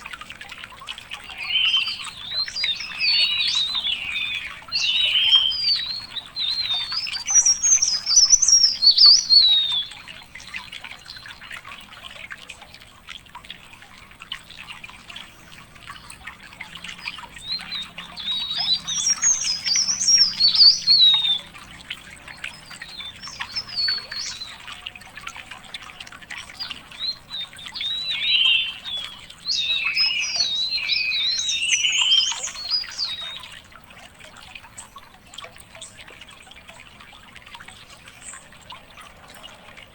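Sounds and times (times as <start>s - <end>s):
songbird warbling: 0.0s - 11.7s, 14.7s - 35.1s.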